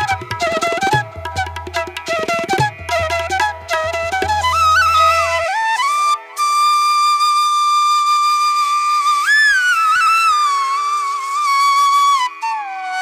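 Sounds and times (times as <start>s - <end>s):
flute-like wind melody: 0.0s - 13.0s.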